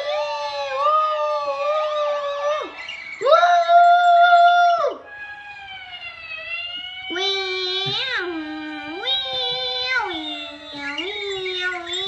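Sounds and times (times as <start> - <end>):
voice imitating a siren: 0.0 - 12.0.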